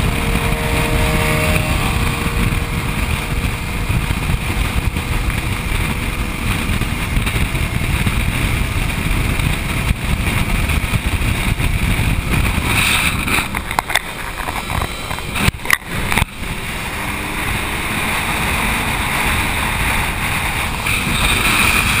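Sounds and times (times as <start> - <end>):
motorcycle engine: 0.0 - 22.0
road noise: 0.0 - 22.0
wind rushing over camera: 0.0 - 22.0.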